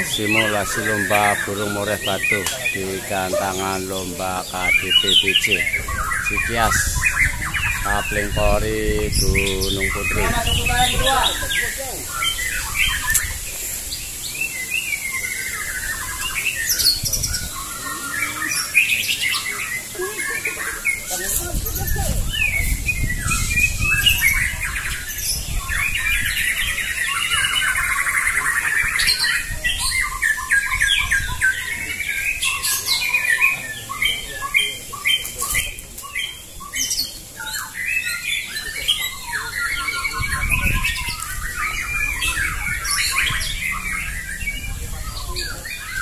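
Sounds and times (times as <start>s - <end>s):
songbirds singing with trills: 0.0s - 46.0s.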